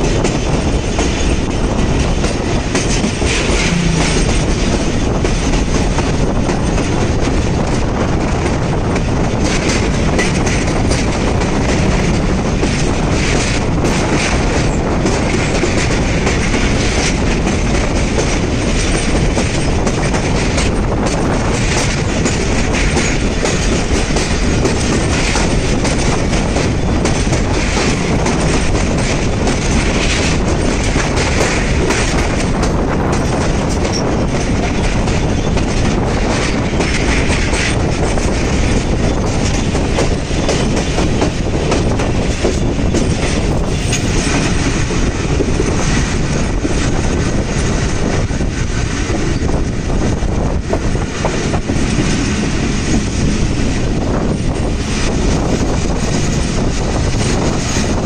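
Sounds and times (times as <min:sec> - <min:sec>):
clickety-clack over rail joints: 0:00.0 - 0:58.0
train wheels rumbling: 0:00.0 - 0:58.0.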